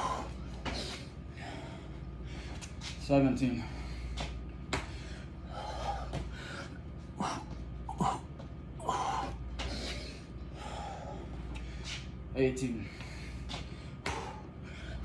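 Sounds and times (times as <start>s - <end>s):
man breathing hard and gasping: 0.0s - 15.0s.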